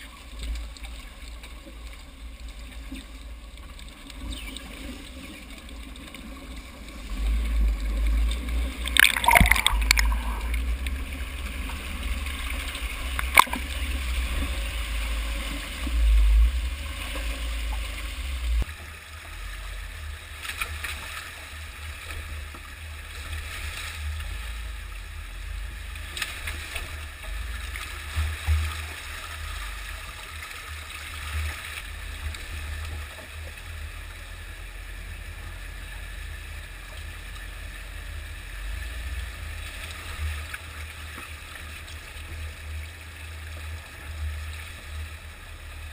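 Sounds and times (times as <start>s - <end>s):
constant low rumble: 0.0s - 45.9s
water gurgling and splashing: 0.0s - 45.9s.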